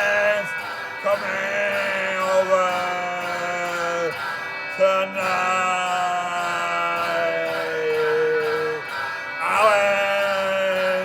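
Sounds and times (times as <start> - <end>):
person singing long notes: 0.0 - 11.0.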